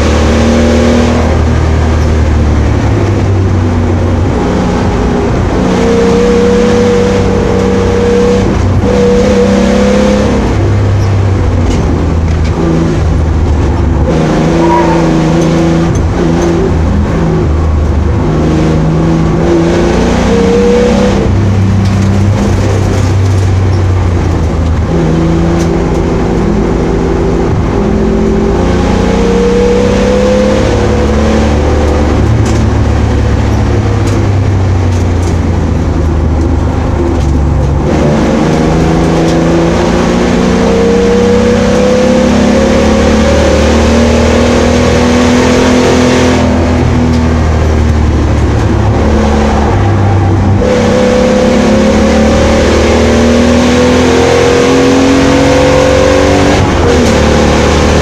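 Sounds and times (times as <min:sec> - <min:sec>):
car engine revving: 0:00.0 - 0:58.0
road and wind noise: 0:00.0 - 0:58.0.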